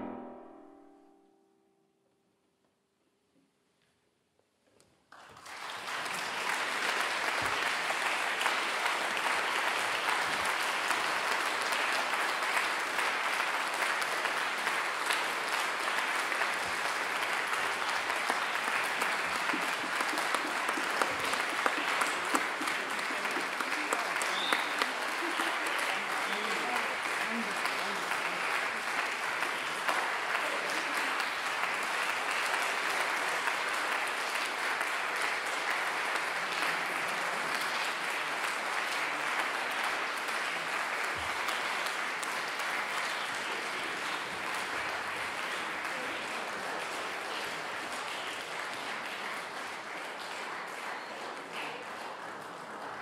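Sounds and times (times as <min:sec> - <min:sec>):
audience applauding: 0:05.1 - 0:53.0.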